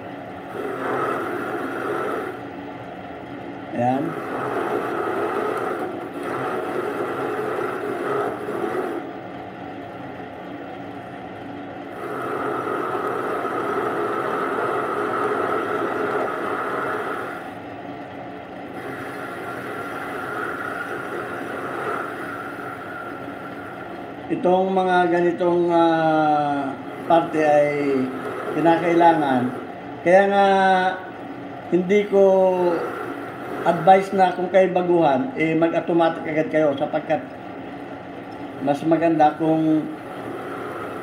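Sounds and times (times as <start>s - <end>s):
metal lathe running: 0.0s - 36.7s, 37.5s - 41.0s.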